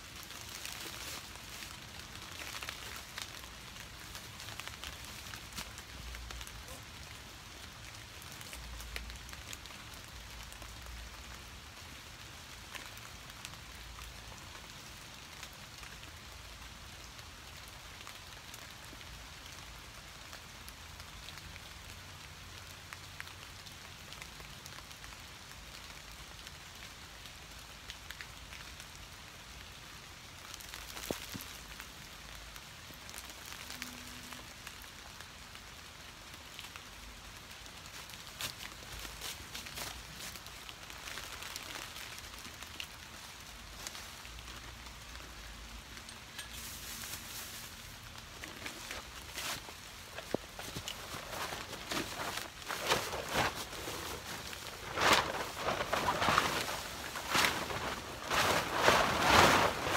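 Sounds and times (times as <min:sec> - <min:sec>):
rain on trees and leaves: 0:00.0 - 0:59.9
rustle: 0:00.0 - 0:59.9.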